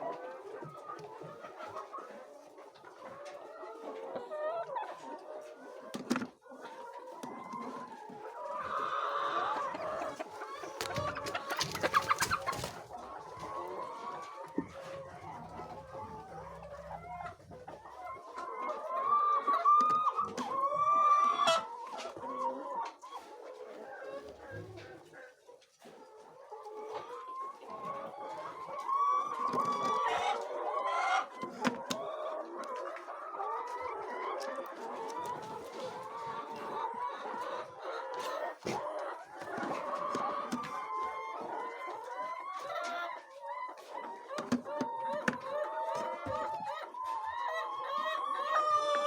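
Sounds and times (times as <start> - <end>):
hens clucking: 0.0 - 49.0.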